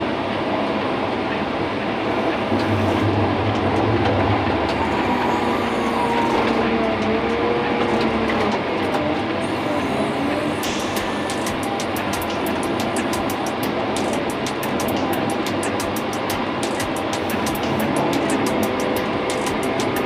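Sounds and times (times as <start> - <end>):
wavering whine: 0.0 - 20.0
wheel loader diesel engine: 0.0 - 20.0.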